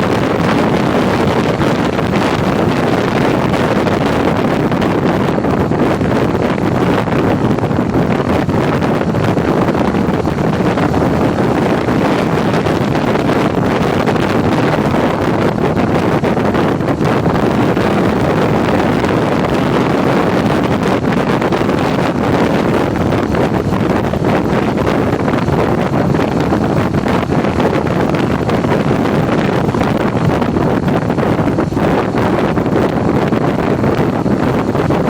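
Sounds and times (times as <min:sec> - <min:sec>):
motorcycle engine and road noise: 0:00.0 - 0:35.0
wind buffeting microphone: 0:00.0 - 0:35.0.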